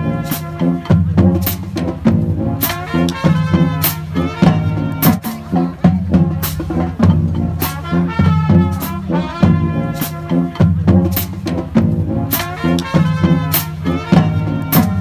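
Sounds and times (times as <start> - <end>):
band playing music: 0.0 - 15.0.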